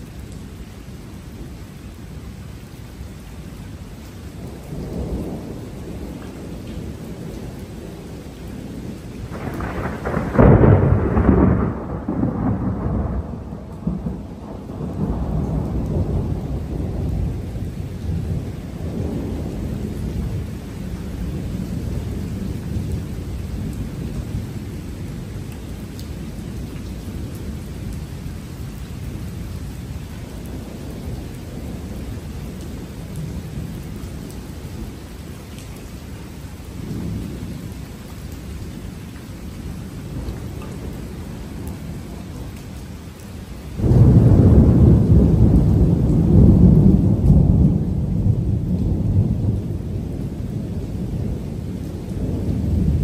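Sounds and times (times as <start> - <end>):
thunder rumbling: 4.4 - 35.0, 38.5 - 53.0.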